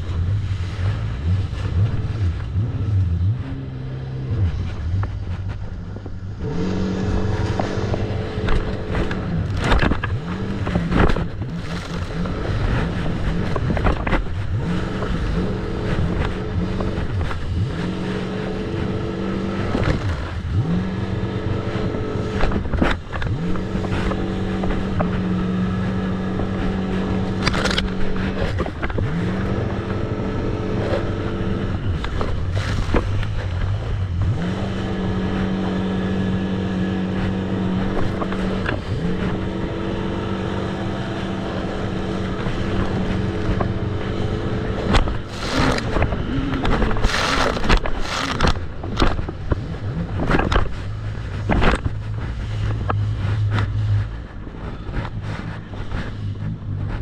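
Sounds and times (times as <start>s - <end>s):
jet ski engine running: 0.0s - 57.0s
wind noise: 0.0s - 57.0s.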